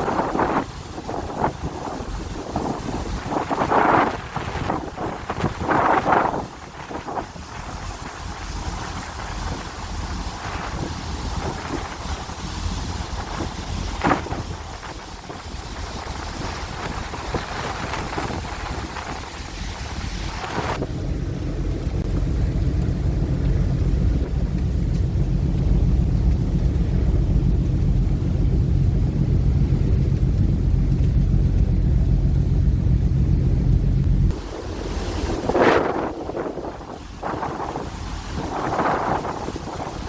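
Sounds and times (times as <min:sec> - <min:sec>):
rushing sea: 0:00.0 - 0:40.0
ship engines droning: 0:00.0 - 0:40.0
wind buffeting microphone: 0:00.0 - 0:40.0.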